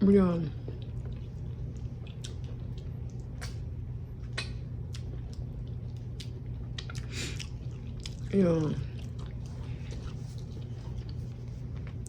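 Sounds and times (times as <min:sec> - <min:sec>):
steady low hum: 0:00.0 - 0:12.0
chewing mouth sounds: 0:00.7 - 0:03.6, 0:04.9 - 0:12.0.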